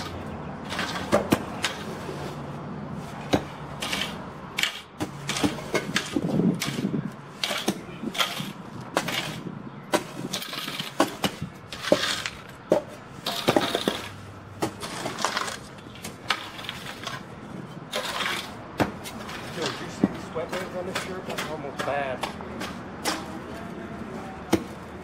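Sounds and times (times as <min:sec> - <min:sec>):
shovel digging in gravel: 0:00.0 - 0:02.3, 0:03.0 - 0:23.3.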